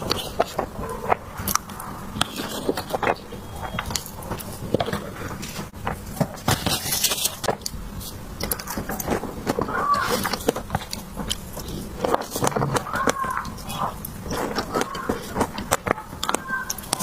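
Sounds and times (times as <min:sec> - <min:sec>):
chewing soft dessert: 0:00.0 - 0:06.2, 0:07.2 - 0:17.0.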